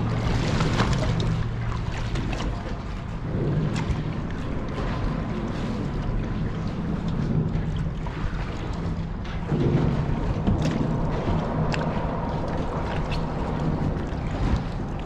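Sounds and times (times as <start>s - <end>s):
steady low hum: 0.0s - 15.0s
water slapping around boat: 0.0s - 15.0s
wind buffeting microphone: 0.0s - 15.0s.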